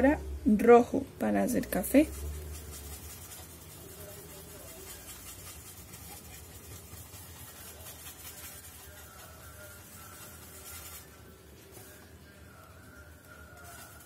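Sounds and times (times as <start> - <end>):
paintbrush scratching on styrofoam: 1.6 - 14.0.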